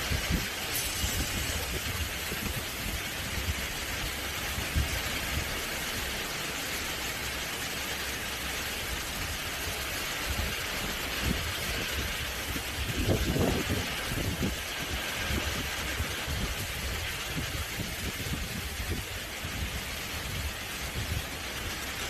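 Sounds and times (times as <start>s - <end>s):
wind gusts on microphone: 0.0s - 6.2s, 9.7s - 22.0s
heavy rain pouring: 0.0s - 22.0s.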